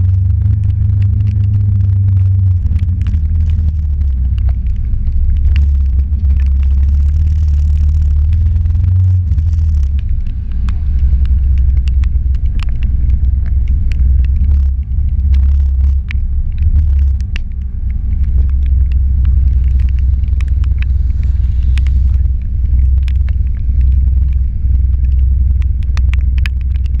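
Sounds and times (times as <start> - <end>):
raindrops ticking on camera: 0.0 - 27.0
vehicle engine idling: 0.0 - 27.0.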